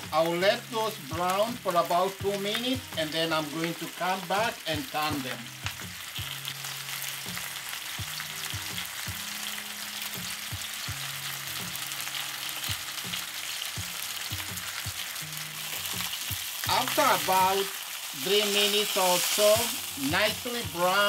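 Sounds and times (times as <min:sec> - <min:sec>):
meat searing in oil: 0:00.0 - 0:21.0.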